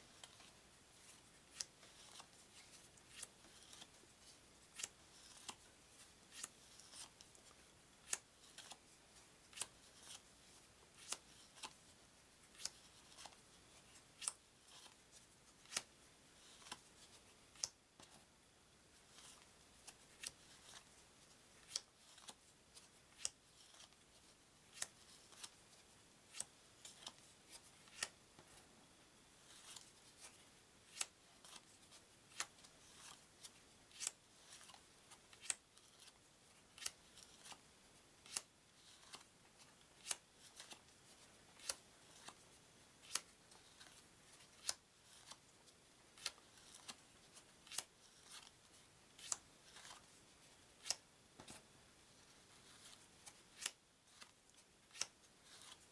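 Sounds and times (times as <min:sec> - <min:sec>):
faint card rustle: 0:00.0 - 0:18.3, 0:18.9 - 0:28.7, 0:29.4 - 0:37.6, 0:38.2 - 0:55.9.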